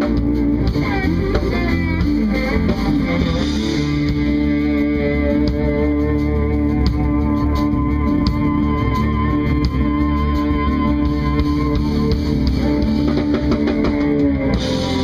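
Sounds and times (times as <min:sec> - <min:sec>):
band backing with bass: 0:00.0 - 0:15.0
electric guitar lead line: 0:00.0 - 0:15.0.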